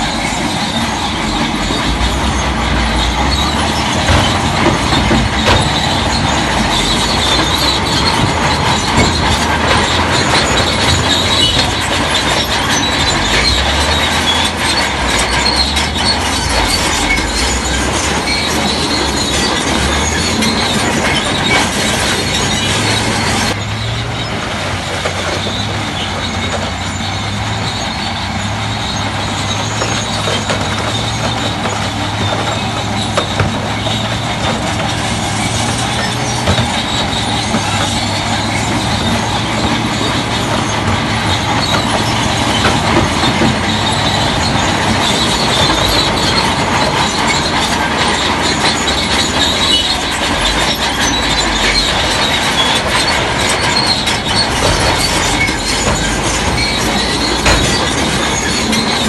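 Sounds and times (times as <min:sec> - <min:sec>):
bulldozer engine running: 0:00.0 - 0:59.0
steel tracks clanking and squealing: 0:00.0 - 0:59.0.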